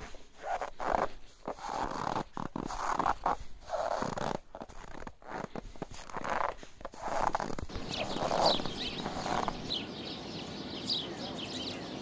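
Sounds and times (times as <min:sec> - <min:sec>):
footsteps crunching on snow: 0:00.0 - 0:09.9.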